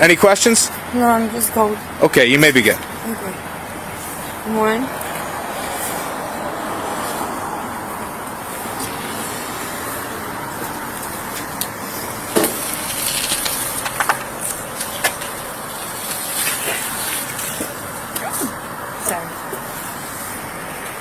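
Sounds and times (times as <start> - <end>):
road traffic hiss: 0.0 - 21.0.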